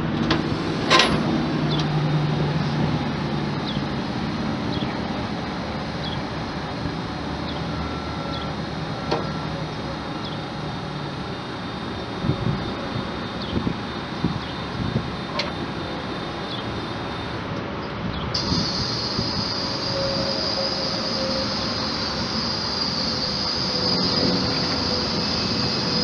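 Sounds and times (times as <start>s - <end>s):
hydraulic pump running: 0.0s - 26.0s.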